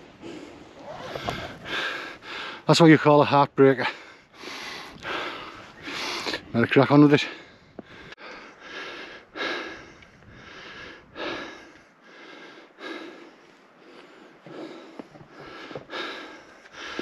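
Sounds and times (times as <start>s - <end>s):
man breathing heavily: 0.0s - 2.7s, 3.8s - 6.6s, 7.2s - 17.0s.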